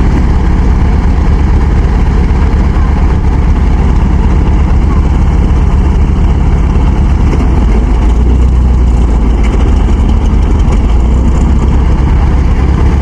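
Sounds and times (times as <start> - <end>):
farm machine engine droning: 0.0 - 13.0.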